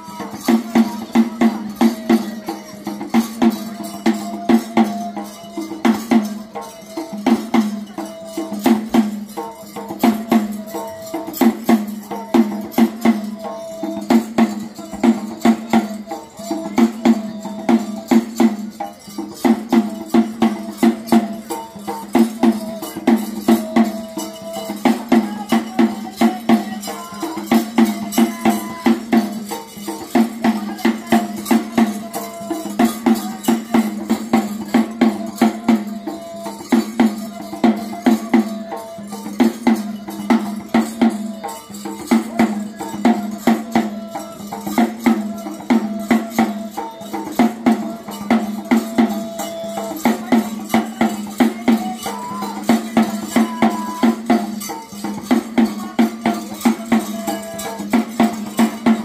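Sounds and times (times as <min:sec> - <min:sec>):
drums beating fast rhythm: 0:00.0 - 0:59.0
jangling metal percussion: 0:00.0 - 0:59.0.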